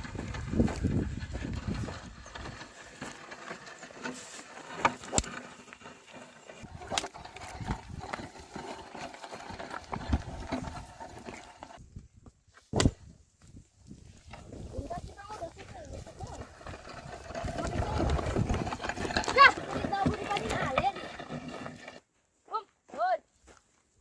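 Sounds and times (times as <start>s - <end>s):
hooves and gear knocking: 0.0s - 11.8s, 14.1s - 22.0s.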